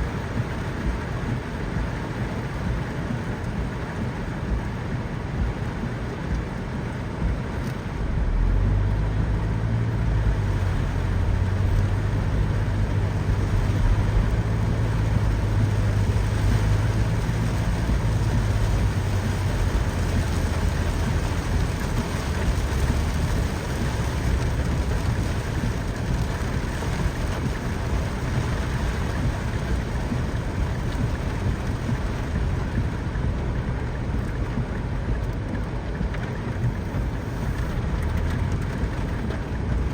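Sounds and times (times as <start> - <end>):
low rumble: 0.0 - 39.9
steady rain: 0.0 - 39.9.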